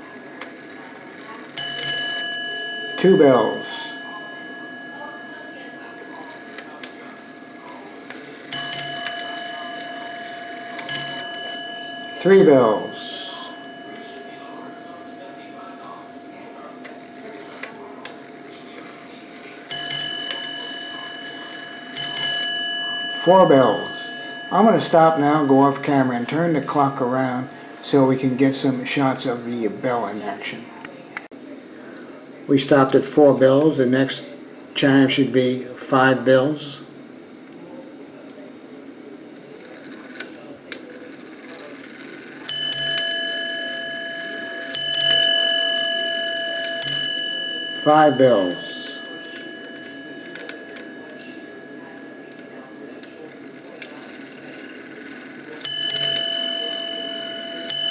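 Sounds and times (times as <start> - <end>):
clock striking bell: 0.0 - 30.5, 39.8 - 57.9.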